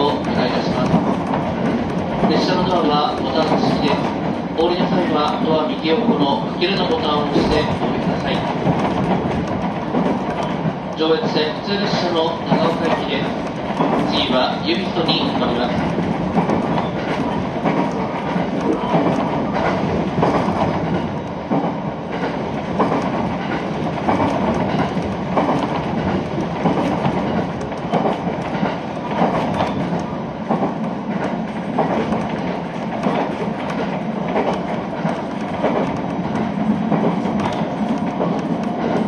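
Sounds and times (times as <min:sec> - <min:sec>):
clacks over rail joints: 0:00.0 - 0:39.0
train wheels rolling on rails: 0:00.0 - 0:39.0.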